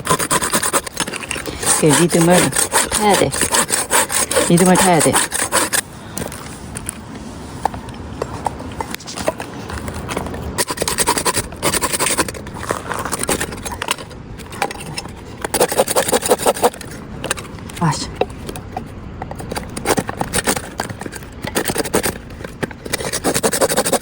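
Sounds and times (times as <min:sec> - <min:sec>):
hand saw cutting firewood: 0:00.0 - 0:06.5, 0:08.3 - 0:17.4, 0:19.4 - 0:24.0.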